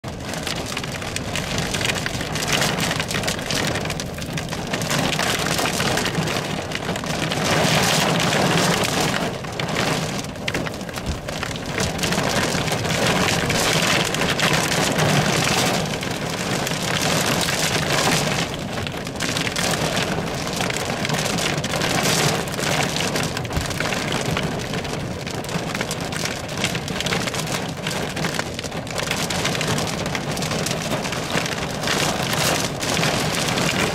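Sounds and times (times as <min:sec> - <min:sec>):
heavy rain pelting car roof: 0:00.0 - 0:33.9.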